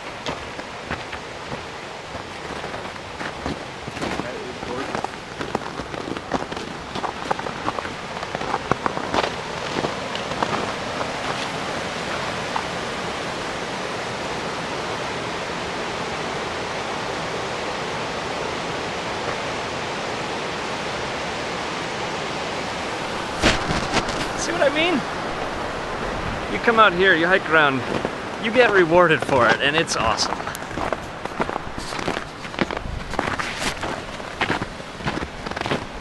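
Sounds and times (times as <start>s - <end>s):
river rapids rushing over rocks: 0.0s - 36.0s.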